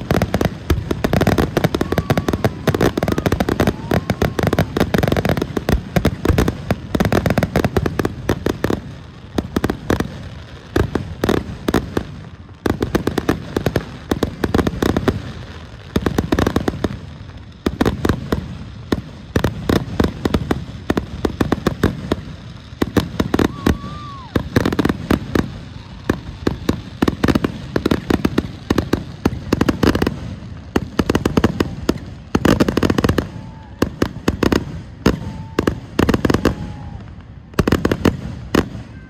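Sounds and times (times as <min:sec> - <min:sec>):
fireworks bursting and crackling: 0:00.0 - 0:39.0.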